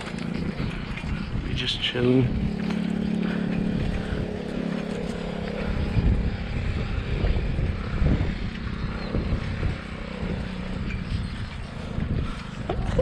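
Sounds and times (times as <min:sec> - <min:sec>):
bicycle tyres on rough asphalt: 0:00.0 - 0:13.0
wind buffeting microphone: 0:00.0 - 0:13.0.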